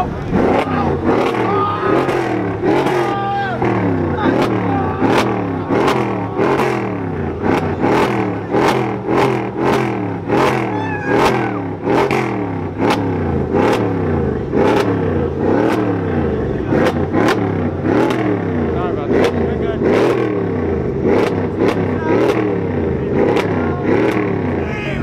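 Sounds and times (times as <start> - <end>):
car exhaust revving in blips: 0.0 - 24.7.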